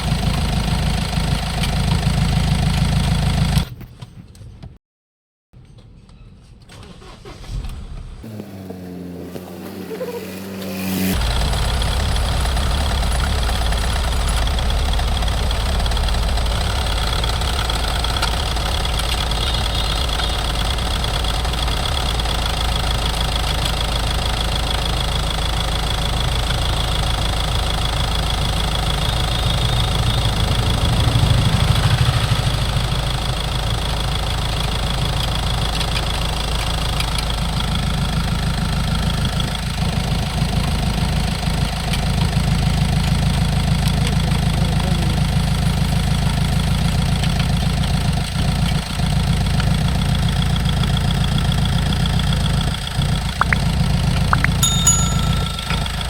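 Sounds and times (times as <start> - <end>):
diesel engine idling: 0.0 - 3.6, 10.8 - 56.0.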